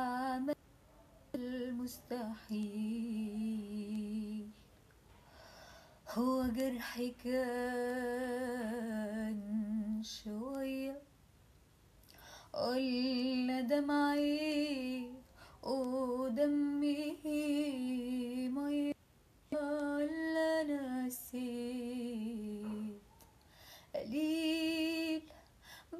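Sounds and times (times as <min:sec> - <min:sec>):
woman singing wordlessly: 0:00.0 - 0:00.6, 0:01.3 - 0:04.7, 0:06.0 - 0:11.1, 0:12.5 - 0:23.1, 0:23.9 - 0:25.9.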